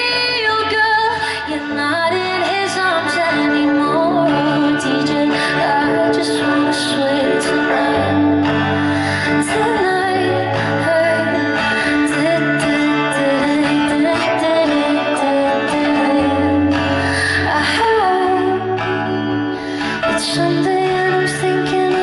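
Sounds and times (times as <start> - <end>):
woman singing pop song: 0.0 - 22.0.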